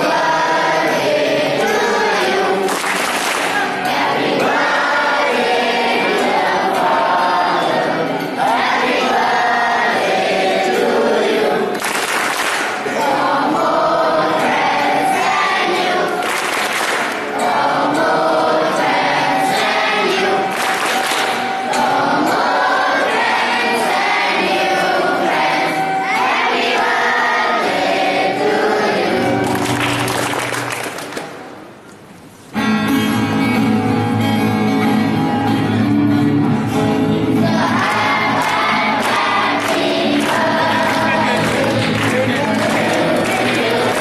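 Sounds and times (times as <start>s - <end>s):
group of people singing: 0.0s - 30.0s, 35.0s - 44.0s.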